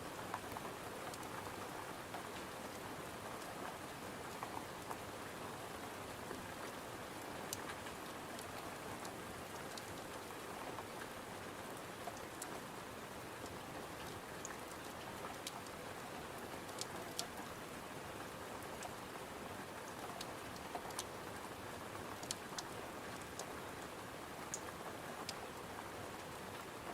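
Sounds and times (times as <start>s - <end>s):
rain on a window: 0.0s - 26.9s.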